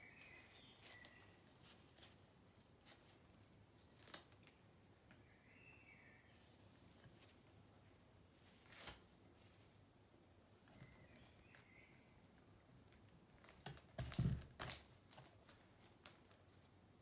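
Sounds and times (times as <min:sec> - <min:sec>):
soft rustle: 0:00.0 - 0:04.9, 0:06.7 - 0:17.0.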